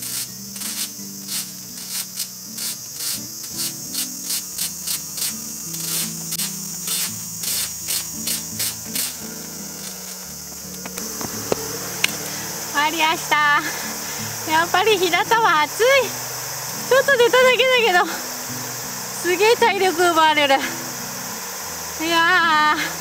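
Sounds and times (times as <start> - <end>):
insects droning: 0.0 - 23.0
rake scraping on asphalt: 0.0 - 23.0.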